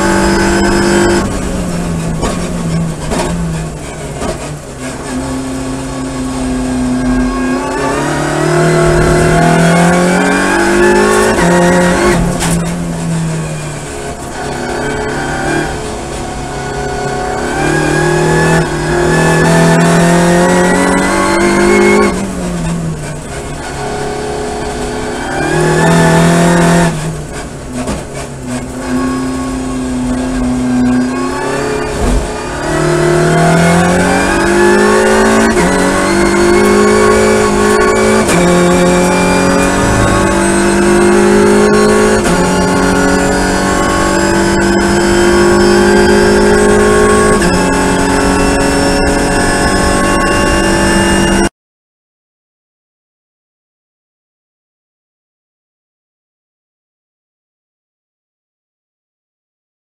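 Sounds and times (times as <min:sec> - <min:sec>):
race car engine revving: 0:00.0 - 0:51.5.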